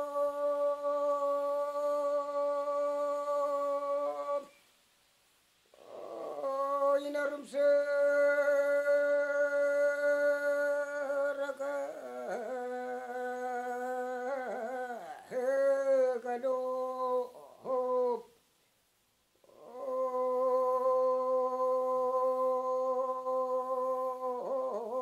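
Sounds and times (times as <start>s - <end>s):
man singing unaccompanied: 0.0s - 4.6s, 5.7s - 18.4s, 19.4s - 25.0s.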